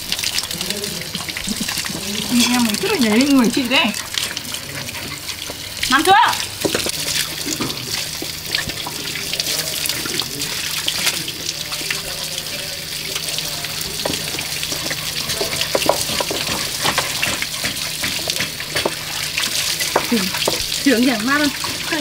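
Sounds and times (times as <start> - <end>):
hose water spraying and splashing: 0.0 - 22.0.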